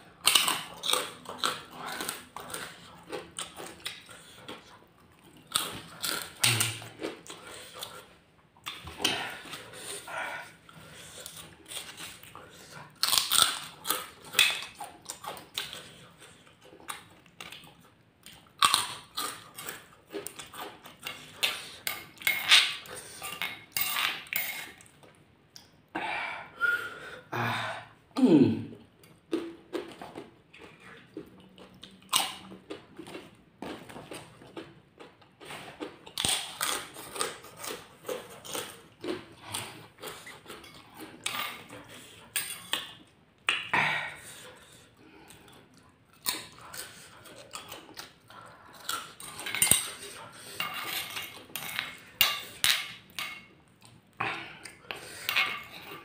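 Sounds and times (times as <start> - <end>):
crackers crunched and chewed: 0.1 - 25.8, 29.0 - 56.0.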